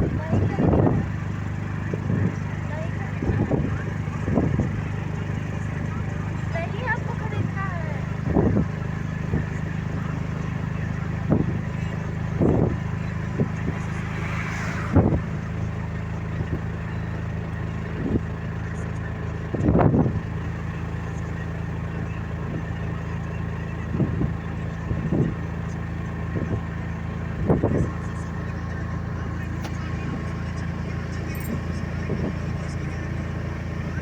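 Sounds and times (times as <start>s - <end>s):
vehicle engine drone: 0.0s - 34.0s.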